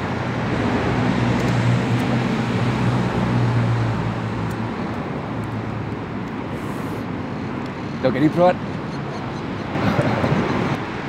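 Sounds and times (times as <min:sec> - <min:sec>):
city traffic noise: 0:00.0 - 0:11.0
vehicle engine hum: 0:00.0 - 0:11.0.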